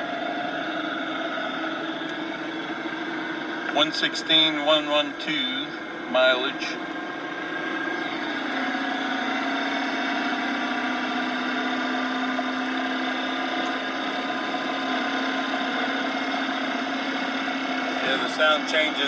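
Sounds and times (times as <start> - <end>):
drivetrain whine: 0.0 - 19.0
road noise inside car: 0.0 - 19.0.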